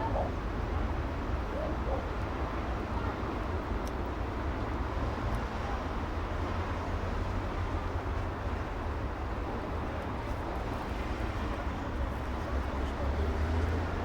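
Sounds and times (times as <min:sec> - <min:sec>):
rumble of street traffic: 0:00.0 - 0:14.0.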